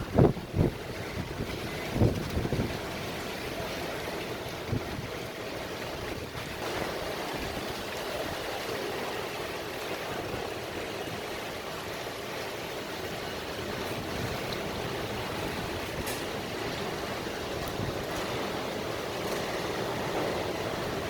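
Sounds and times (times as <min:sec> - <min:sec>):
strong storm wind: 0:00.0 - 0:21.0.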